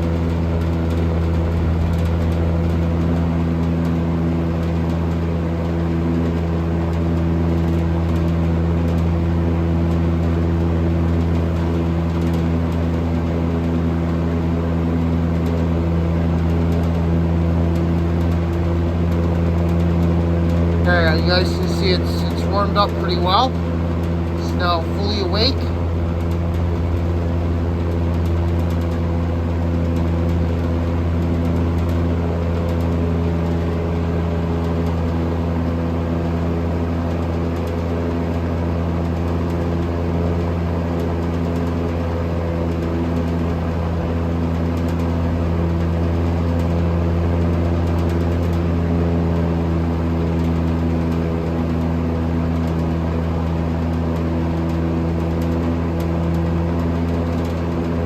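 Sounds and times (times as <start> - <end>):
box fan motor hum: 0.0 - 58.0.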